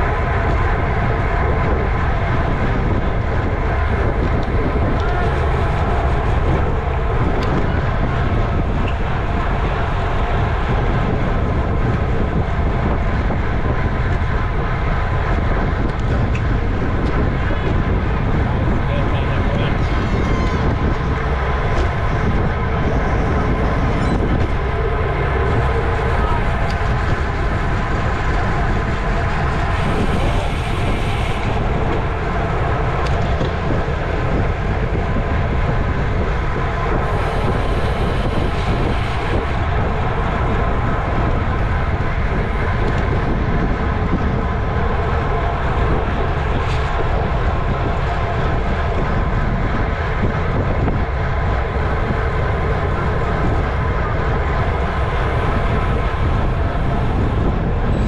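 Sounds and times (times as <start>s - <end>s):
constant hum with steady tones: 0.0s - 58.0s
wind rushing over microphone: 0.0s - 58.0s.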